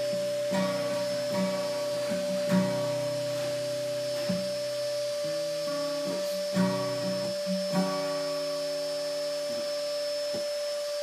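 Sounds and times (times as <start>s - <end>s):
acoustic guitar notes and chords: 0.0s - 10.4s
vacuum cleaner drone: 0.0s - 11.0s.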